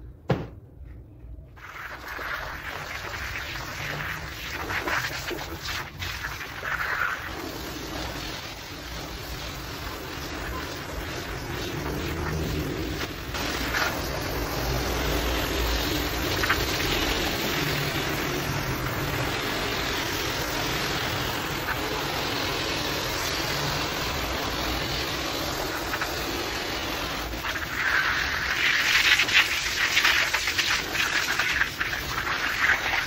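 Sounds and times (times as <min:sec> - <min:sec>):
hose spray rinsing rug: 0:01.6 - 0:33.0.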